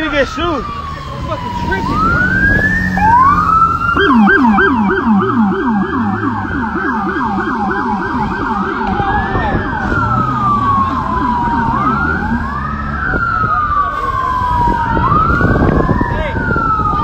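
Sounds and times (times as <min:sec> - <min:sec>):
police siren wail and yelp: 0:00.0 - 0:17.0.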